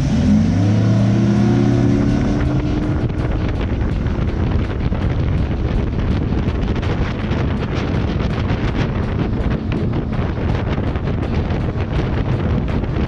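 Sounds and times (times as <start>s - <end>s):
outboard engine running: 0.0s - 13.0s
wind noise: 0.0s - 13.0s.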